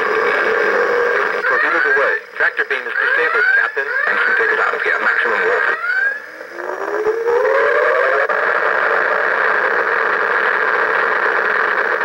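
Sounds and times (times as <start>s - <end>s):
electronic whine and hissing hum: 0.0s - 12.0s.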